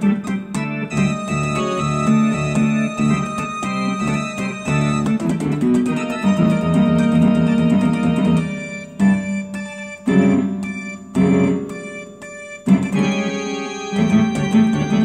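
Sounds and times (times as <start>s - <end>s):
electronic keyboard chords: 0.0s - 15.0s.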